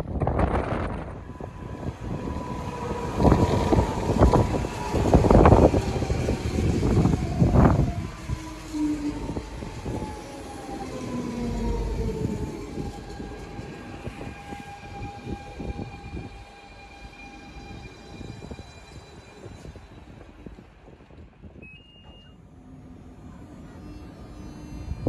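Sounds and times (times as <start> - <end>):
electric train moving: 0.0 - 25.0
train drive whine: 0.0 - 25.0.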